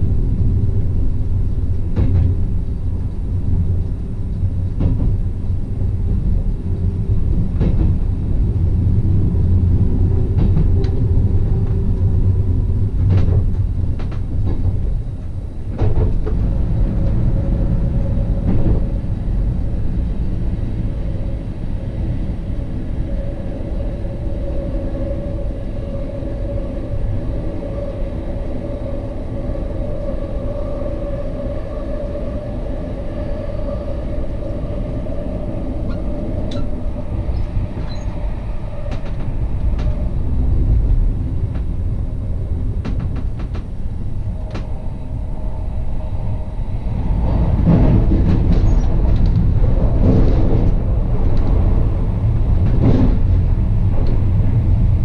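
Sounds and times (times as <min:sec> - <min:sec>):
electric train rumble and whine: 0:00.0 - 0:55.0.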